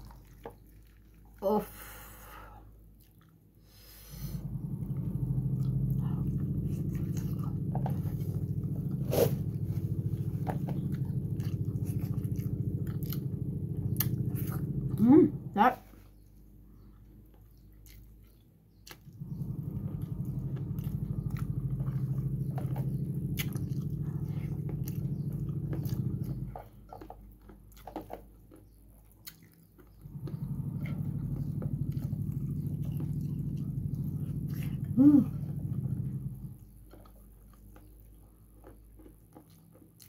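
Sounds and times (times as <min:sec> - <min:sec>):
person chewing food: 0:02.8 - 0:04.6, 0:05.2 - 0:14.8, 0:17.0 - 0:19.2, 0:19.8 - 0:40.0.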